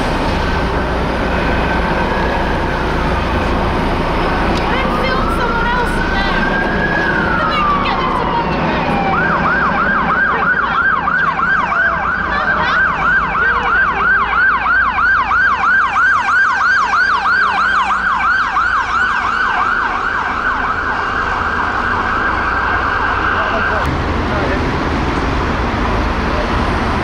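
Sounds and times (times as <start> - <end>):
emergency siren yelping: 0.0 - 23.9
road traffic: 0.0 - 27.0.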